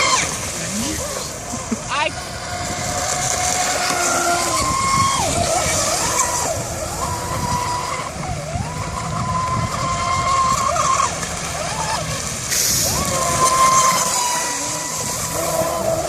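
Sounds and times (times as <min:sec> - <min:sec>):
model boat motor whining: 0:00.0 - 0:16.0.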